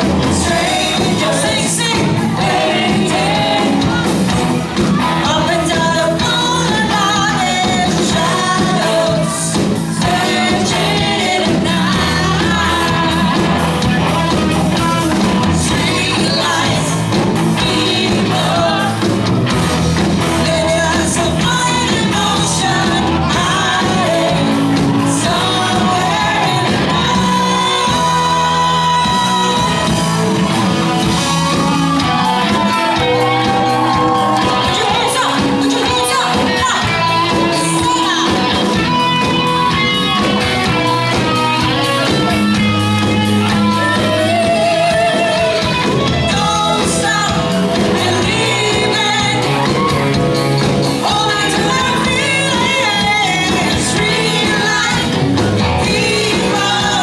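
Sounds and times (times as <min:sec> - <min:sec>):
person singing: 0:00.0 - 0:19.3, 0:20.2 - 0:57.0
drums: 0:00.0 - 0:57.0
electric guitar: 0:00.0 - 0:57.0
keyboard: 0:00.0 - 0:57.0.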